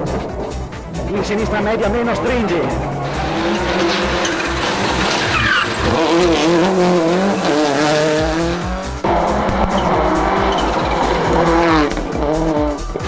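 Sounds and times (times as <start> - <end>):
tyres squealing: 0.0 - 8.5, 9.1 - 13.0
rally car engine revving: 0.0 - 13.0.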